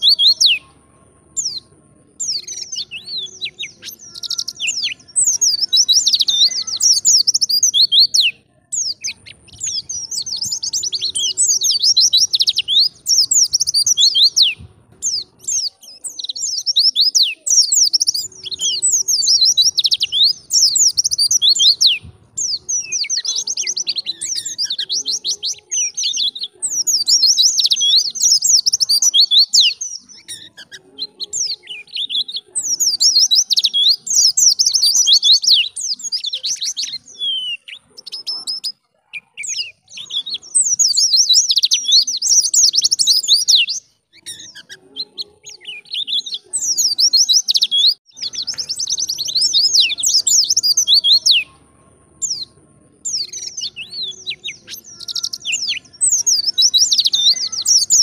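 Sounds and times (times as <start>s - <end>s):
bird high-pitched twittering: 0.0s - 58.0s.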